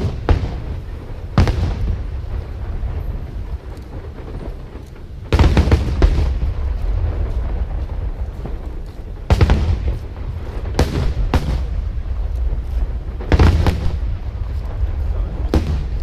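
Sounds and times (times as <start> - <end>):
bangs and crackles: 0.0 - 16.0
fireworks bursting: 0.0 - 16.0
low rumble of echoing booms: 0.0 - 16.0.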